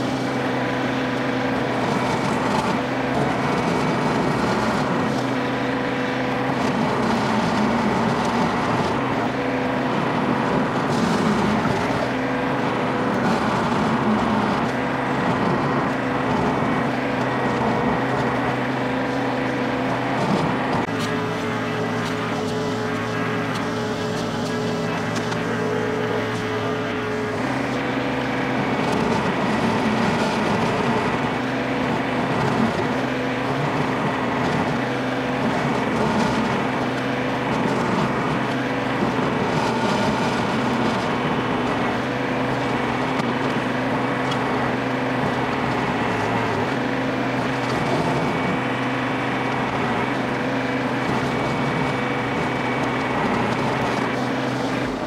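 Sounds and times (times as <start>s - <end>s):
stump grinder chewing wood: 0.0s - 55.0s
tractor engine running: 0.0s - 55.0s.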